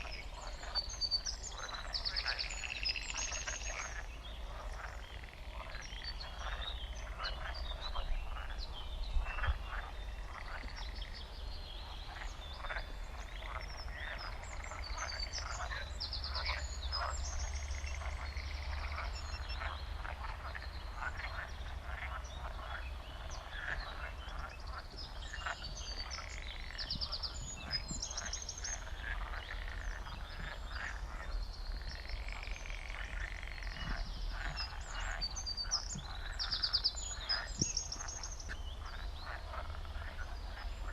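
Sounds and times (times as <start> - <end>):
frogs croaking: 0.0 - 40.9.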